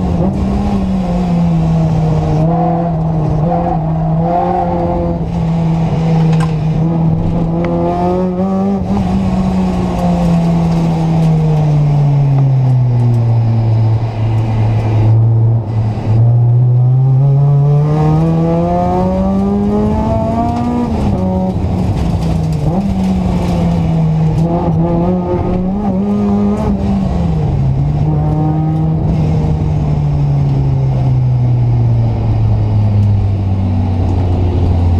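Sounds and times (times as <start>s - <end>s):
car engine revving: 0.0s - 34.9s
road and wind noise: 0.0s - 34.9s.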